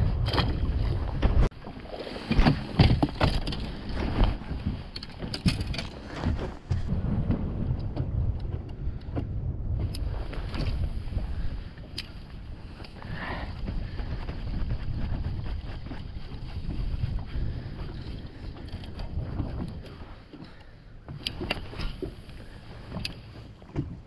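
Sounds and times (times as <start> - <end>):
water slapping boat hull: 0.0 - 24.0
wind rumbling on microphone: 0.0 - 24.0.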